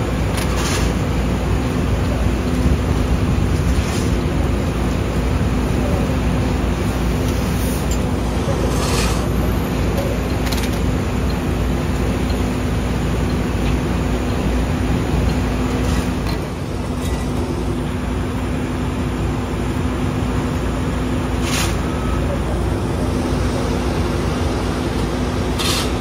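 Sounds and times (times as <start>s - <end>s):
city street traffic: 0.0s - 26.0s
idling vehicle engines: 0.0s - 26.0s.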